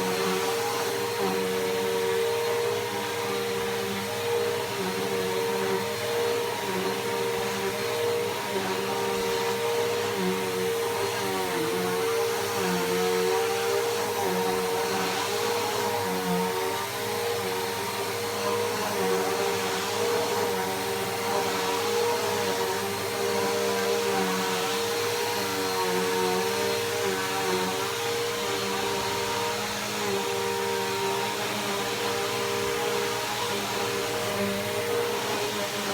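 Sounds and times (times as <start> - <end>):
upright vacuum cleaner running: 0.0 - 35.9.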